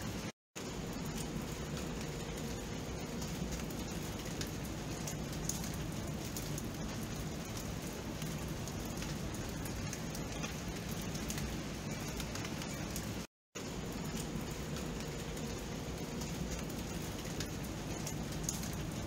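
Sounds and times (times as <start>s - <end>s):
rain hissing: 0.0s - 19.0s
raindrops ticking: 0.0s - 19.0s.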